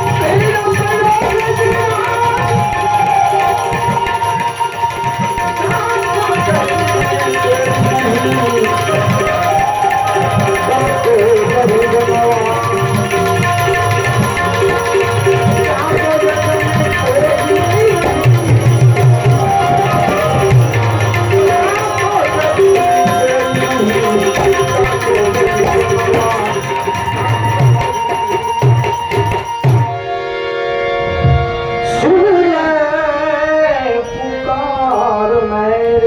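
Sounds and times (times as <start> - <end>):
tabla drumming: 0.0 - 30.1
wavering instrumental melody: 0.0 - 32.8.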